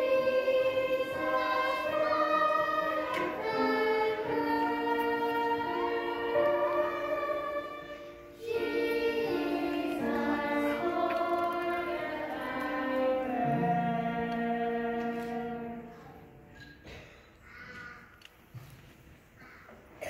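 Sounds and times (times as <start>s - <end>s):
young children singing: 0.0s - 18.2s.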